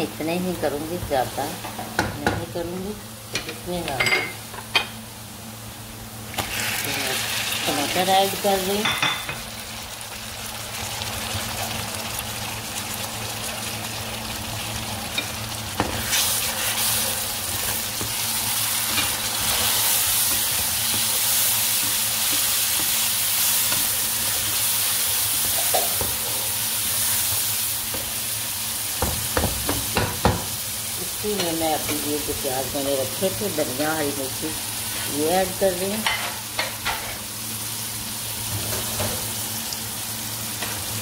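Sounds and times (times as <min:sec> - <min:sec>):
food sizzling in hot oil: 0:03.9 - 0:41.0.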